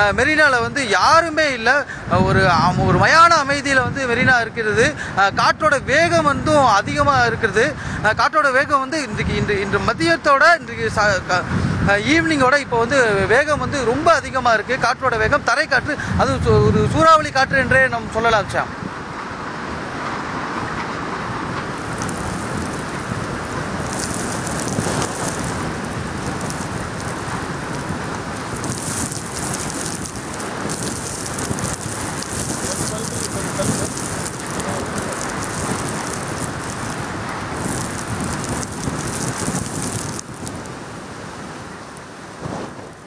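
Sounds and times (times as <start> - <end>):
heavy rain in strong wind: 0.0 - 43.0.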